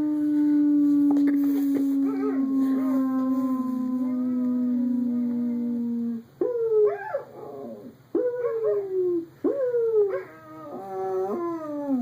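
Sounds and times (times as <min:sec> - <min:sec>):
dog howling: 0:00.0 - 0:12.0.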